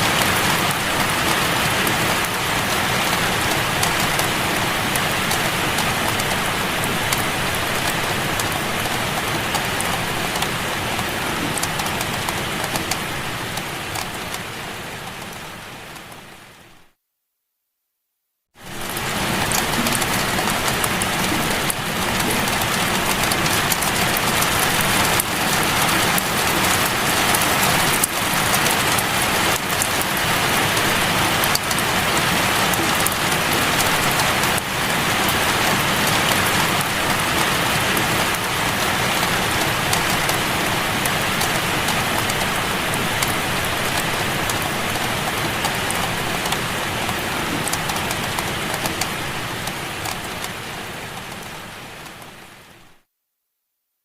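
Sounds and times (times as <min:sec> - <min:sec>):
steady rain falling: 0:00.0 - 0:17.0, 0:18.6 - 0:53.1.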